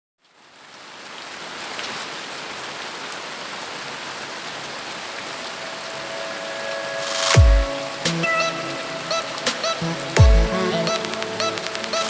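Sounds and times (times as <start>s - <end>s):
steady rain falling: 0.2s - 12.0s.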